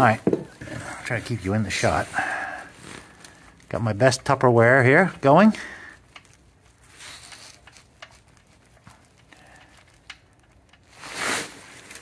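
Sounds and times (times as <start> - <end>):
faint clicks and rustles: 0.0 - 12.0.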